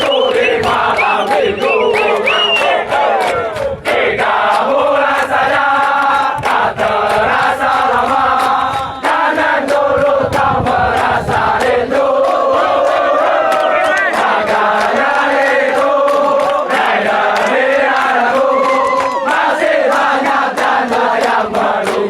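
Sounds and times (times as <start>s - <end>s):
group chanting in unison: 0.0s - 22.0s.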